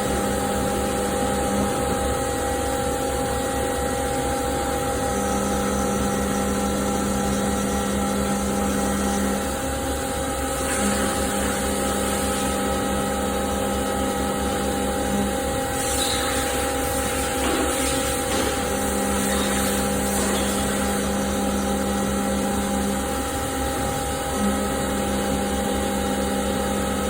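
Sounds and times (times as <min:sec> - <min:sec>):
milling machine hum: 0:00.0 - 0:27.0.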